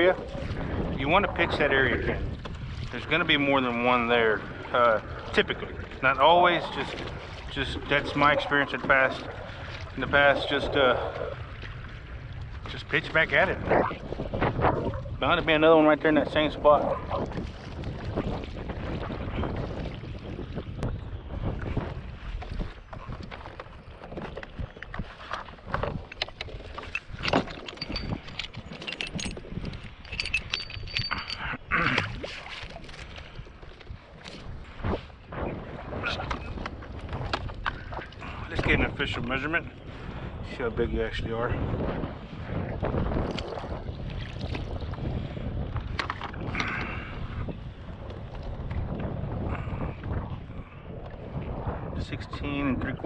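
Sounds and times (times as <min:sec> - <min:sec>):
knocks and clatter on boat: 0:00.0 - 0:53.0
wind buffeting microphone: 0:00.0 - 0:53.0.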